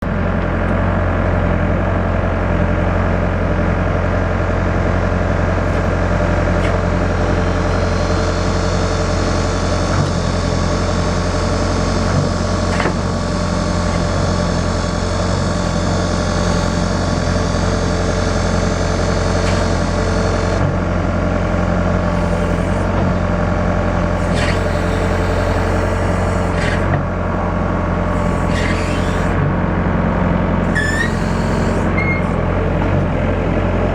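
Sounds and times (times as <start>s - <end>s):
backhoe engine running: 0.0s - 33.9s
high hydraulic whine: 4.4s - 33.9s.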